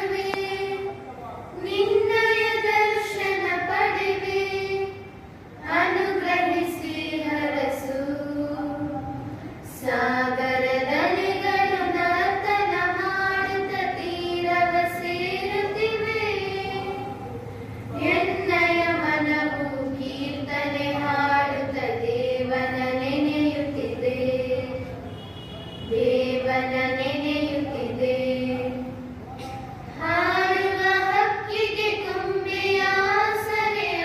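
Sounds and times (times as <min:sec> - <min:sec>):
girls singing into microphones: 0:00.0 - 0:25.0, 0:25.9 - 0:34.0.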